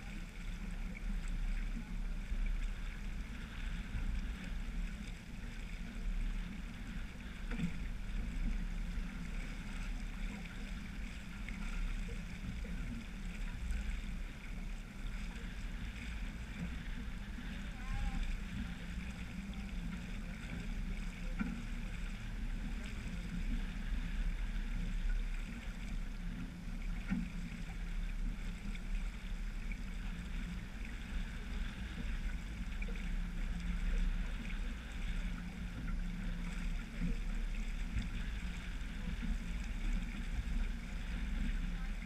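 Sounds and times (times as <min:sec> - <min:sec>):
water rushing along hull: 0:00.0 - 0:42.0
wind over boat: 0:00.0 - 0:42.0
wind rumble on microphone: 0:00.0 - 0:42.0.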